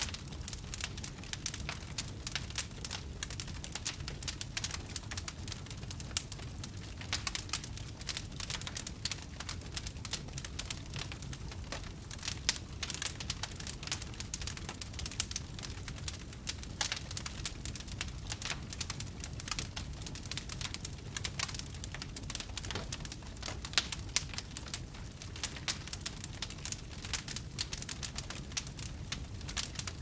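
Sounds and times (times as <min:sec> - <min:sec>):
campfire crackling: 0:00.0 - 0:30.0
low rumble of fire: 0:00.0 - 0:30.0.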